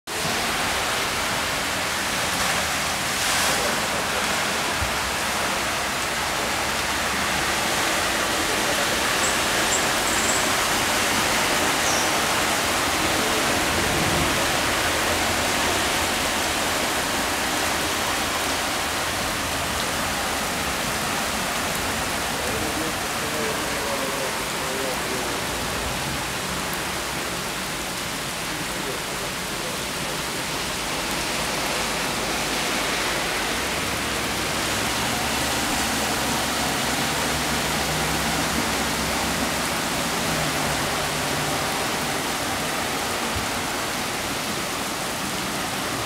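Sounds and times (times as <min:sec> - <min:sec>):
heavy rain pouring: 0:00.0 - 0:46.0
floodwater rushing: 0:00.1 - 0:46.0.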